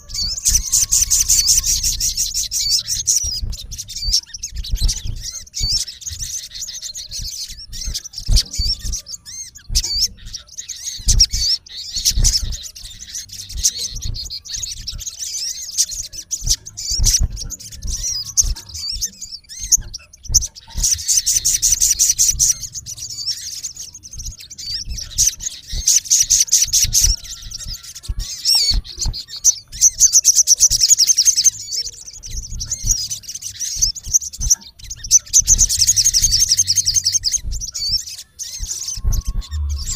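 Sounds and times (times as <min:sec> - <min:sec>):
sunbird high-pitched chirps and trills: 0:00.0 - 0:39.9.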